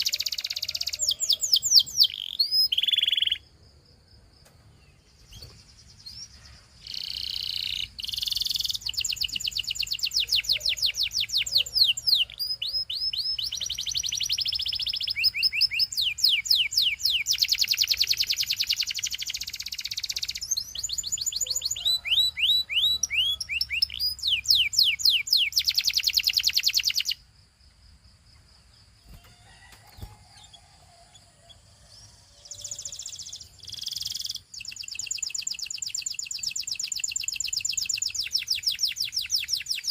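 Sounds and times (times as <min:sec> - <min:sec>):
canary singing trills: 0:00.0 - 0:03.5, 0:04.9 - 0:27.2, 0:29.0 - 0:39.9.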